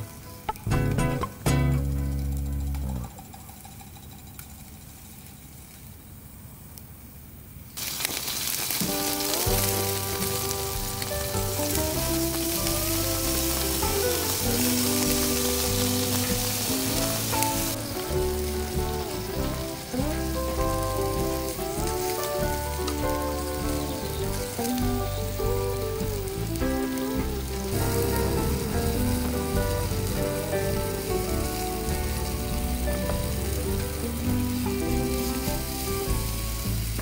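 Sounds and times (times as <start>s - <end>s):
background music with bass line: 0.0s - 3.2s, 8.9s - 37.0s
skewers sizzling on a grill: 0.0s - 3.3s, 7.8s - 37.0s.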